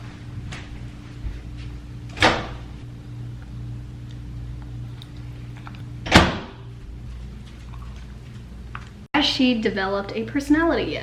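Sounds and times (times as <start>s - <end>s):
microwave oven humming: 0.0s - 9.1s.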